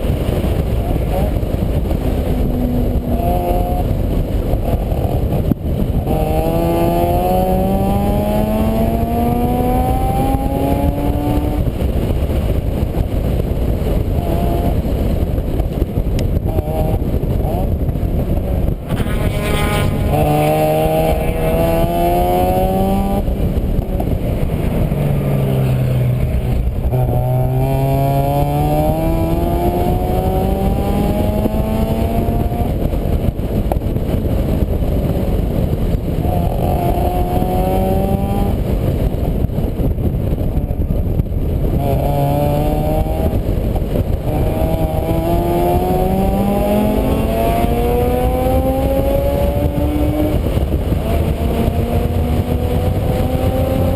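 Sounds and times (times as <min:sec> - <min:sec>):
low rumbling noise: 0:00.0 - 0:53.9
vehicle engine accelerating: 0:00.0 - 0:53.9.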